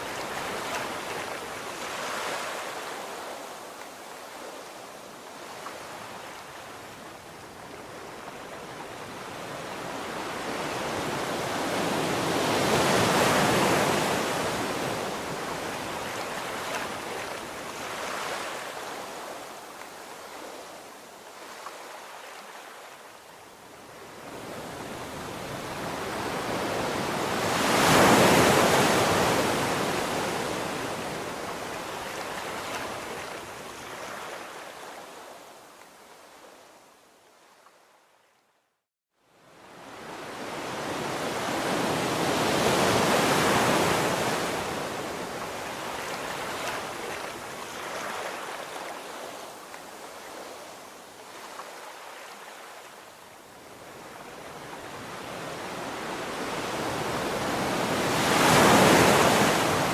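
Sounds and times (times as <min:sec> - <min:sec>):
ocean surf breaking on beach: 0:00.0 - 0:23.0, 0:23.8 - 0:35.2, 0:39.6 - 0:59.9.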